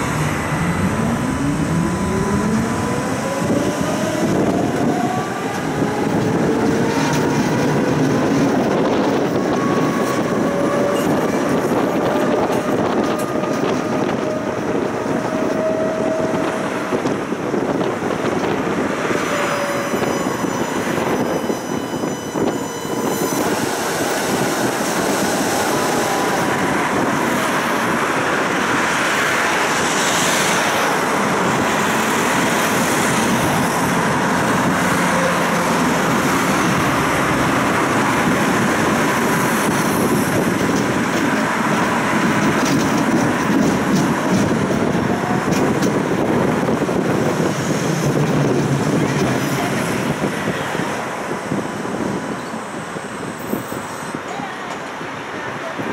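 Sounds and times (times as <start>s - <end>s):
tram wheels rumbling on rails: 0.0s - 55.9s.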